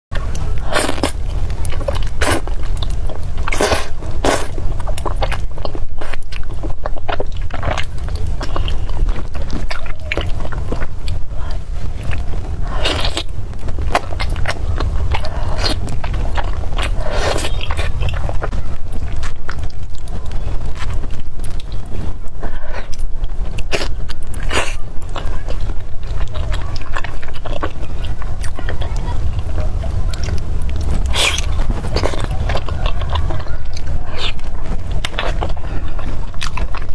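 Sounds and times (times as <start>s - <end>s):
biting and chewing: 0.1s - 36.9s
steady low hum: 0.1s - 36.9s
steady low rumble: 0.1s - 36.9s
crunching or slurping: 0.2s - 36.9s.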